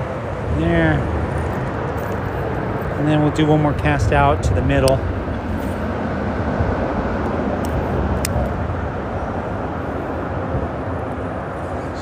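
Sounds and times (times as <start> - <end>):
freeway traffic rumble: 0.0 - 12.0.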